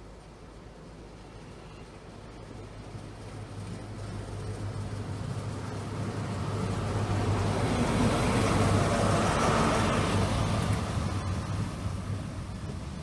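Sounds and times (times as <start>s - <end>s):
diesel engine hum: 0.0s - 13.0s
wheels rumbling on rail: 0.0s - 13.0s.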